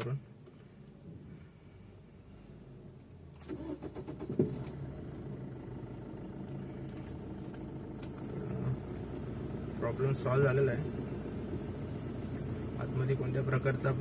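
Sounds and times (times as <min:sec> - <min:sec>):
car engine starting and idling: 0:00.0 - 0:14.0.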